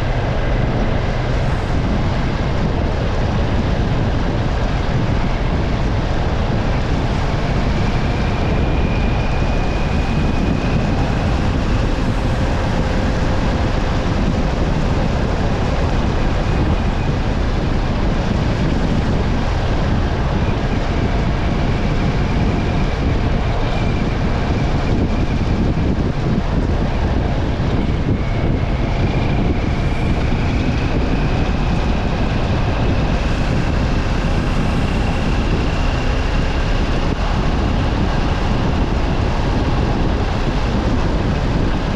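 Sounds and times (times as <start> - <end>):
low road rumble: 0.0 - 41.9.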